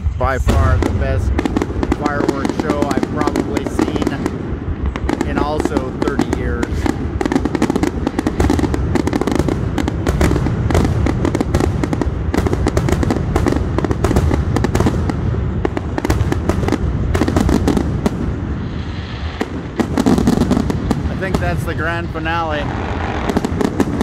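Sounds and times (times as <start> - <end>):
fireworks bursting: 0.0 - 24.0
fireworks crackling hiss: 0.0 - 24.0.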